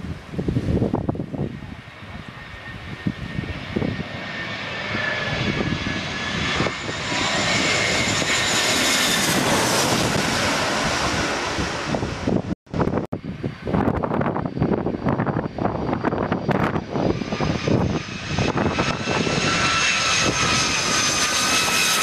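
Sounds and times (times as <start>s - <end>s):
jet airliner rumble and engine whine: 0.0s - 22.0s.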